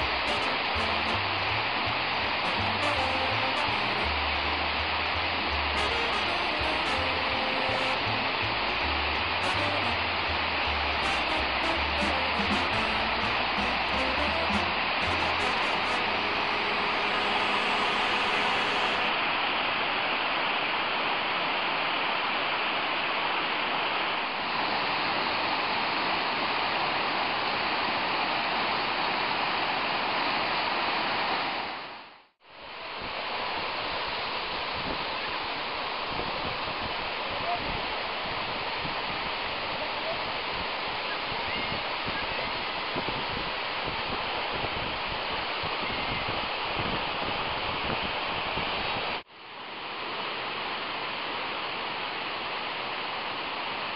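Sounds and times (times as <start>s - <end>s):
waterfall rushing over rocks: 0.0s - 53.9s.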